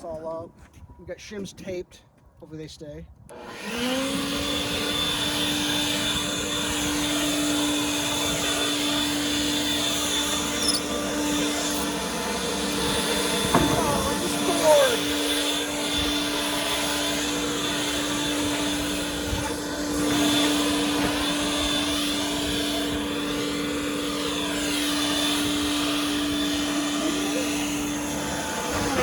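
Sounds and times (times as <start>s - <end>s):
blower running: 3.3s - 29.0s.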